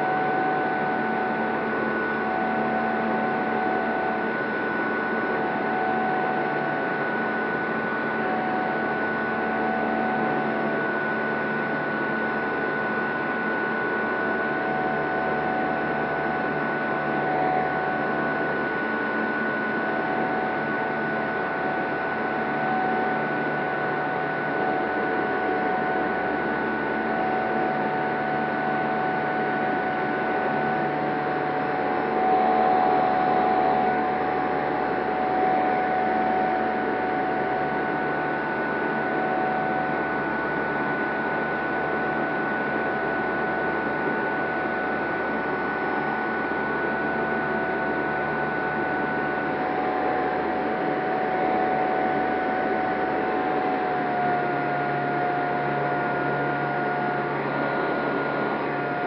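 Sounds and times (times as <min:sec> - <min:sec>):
electric propeller whine: 0:00.0 - 0:59.0.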